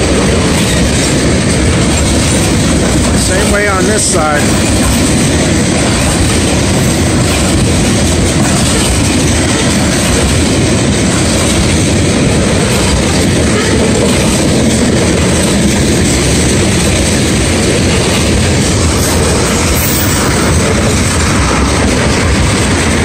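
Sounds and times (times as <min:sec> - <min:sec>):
train wheels rumbling and rattling: 0:00.0 - 0:23.0.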